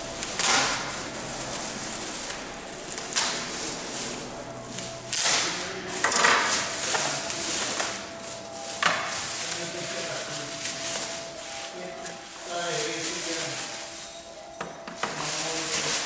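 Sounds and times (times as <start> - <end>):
rustling and scraping: 0.0 - 16.0.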